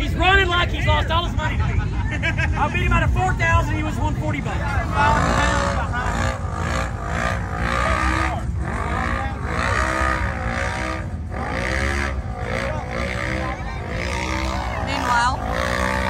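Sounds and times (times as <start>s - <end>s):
low engine rumble: 0.0s - 16.0s
off-road vehicle engines revving: 0.0s - 16.0s.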